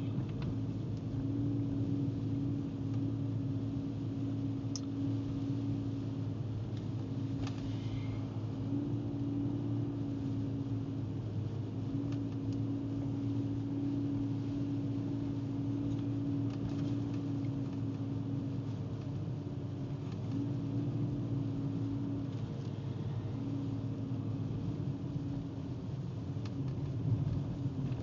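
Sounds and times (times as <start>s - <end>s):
car engine and tyre drone: 0.0s - 28.0s.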